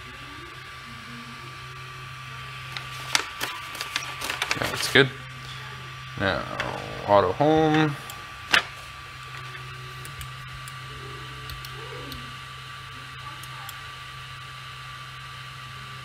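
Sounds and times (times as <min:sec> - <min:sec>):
stepper motor tones: 0:00.0 - 0:14.5
printer fan hum: 0:00.0 - 0:16.0.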